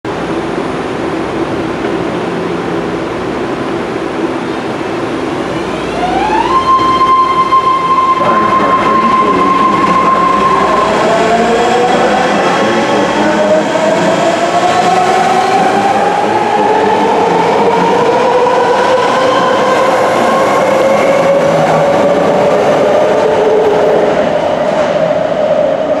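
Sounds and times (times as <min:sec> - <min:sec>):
subway train humming: 0:00.0 - 0:26.0.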